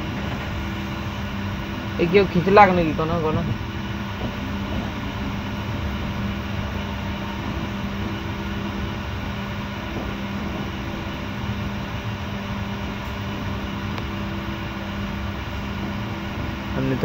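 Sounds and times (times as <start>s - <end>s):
low hum: 0.0s - 17.0s
train running noise: 0.0s - 17.0s.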